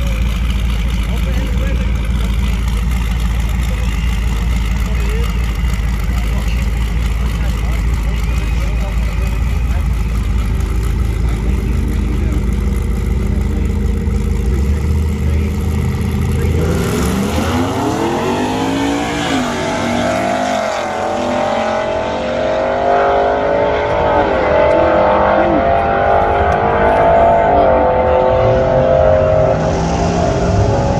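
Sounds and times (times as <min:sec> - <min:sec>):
truck engine rumbling and accelerating: 0:00.0 - 0:30.9.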